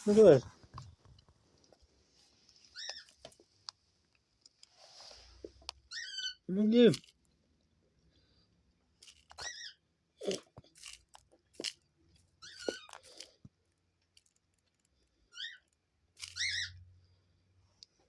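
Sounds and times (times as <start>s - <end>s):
dove pecking through birdseed: 0.0s - 7.4s, 8.1s - 17.0s.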